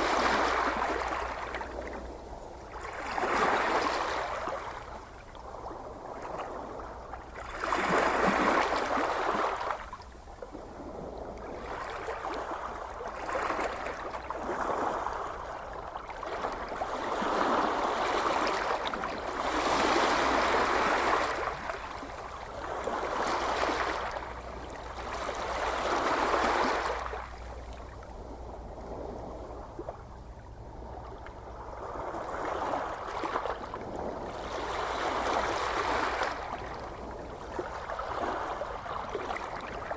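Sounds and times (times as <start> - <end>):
gentle ocean waves washing ashore: 0.0 - 39.9.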